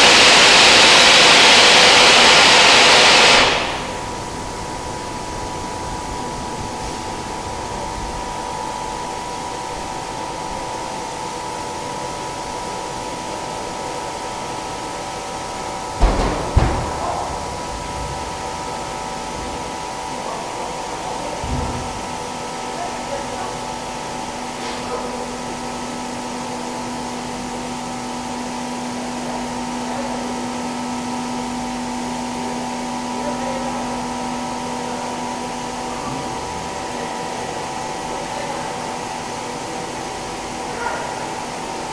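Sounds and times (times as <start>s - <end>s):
steady humming tones: 0.0s - 41.9s.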